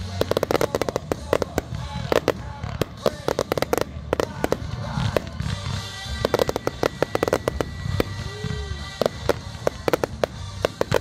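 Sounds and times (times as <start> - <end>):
fireworks bangs and pops: 0.0 - 11.0
music playing: 0.0 - 11.0.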